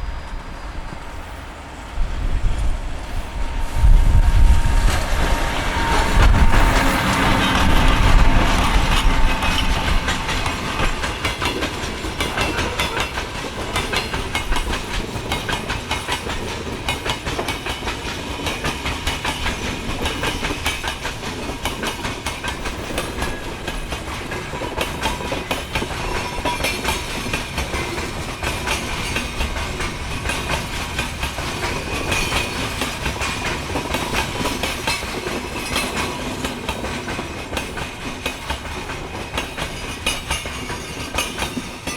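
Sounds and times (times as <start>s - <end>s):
train wheels clattering over rails: 0.0s - 41.9s.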